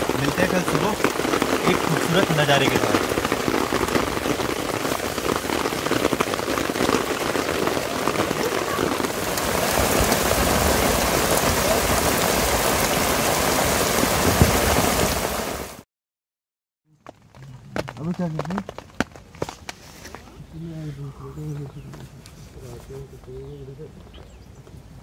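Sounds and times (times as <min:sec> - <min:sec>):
heavy rain on tent fabric: 0:00.0 - 0:15.8, 0:16.9 - 0:24.2.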